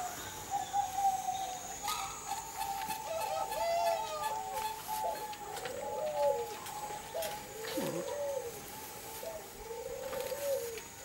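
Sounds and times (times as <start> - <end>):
doves cooing: 0.0 - 11.0.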